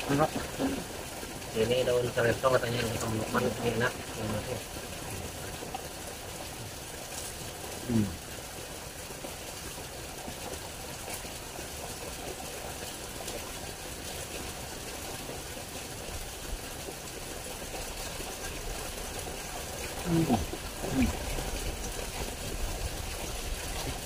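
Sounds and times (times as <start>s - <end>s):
stream of running water: 0.0s - 24.0s.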